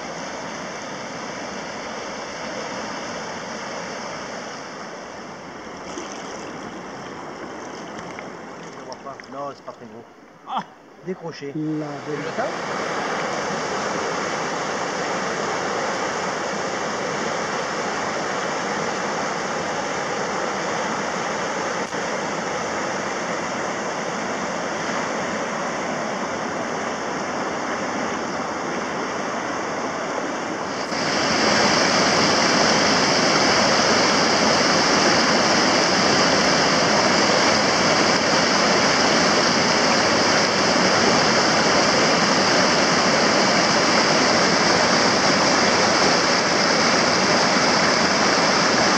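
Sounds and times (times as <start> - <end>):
river rapids roaring over rocks: 0.2 - 9.5, 12.0 - 48.9.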